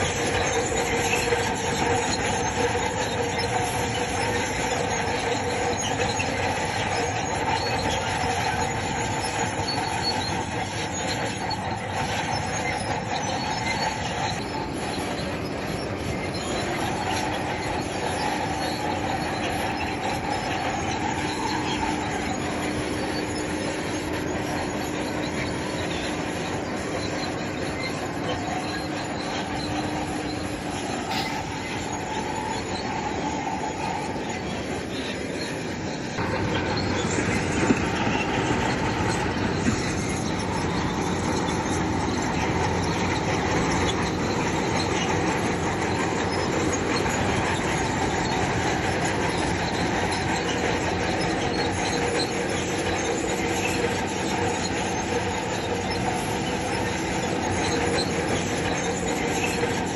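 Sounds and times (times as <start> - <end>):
diesel engine running: 0.0 - 59.9
steel tracks grinding and clanking: 0.0 - 59.9.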